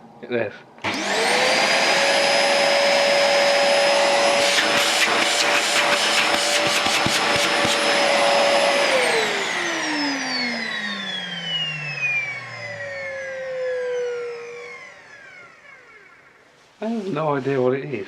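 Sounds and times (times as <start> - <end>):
motor whine spinning down: 0.8 - 16.6
vacuum cleaner running: 0.8 - 17.4.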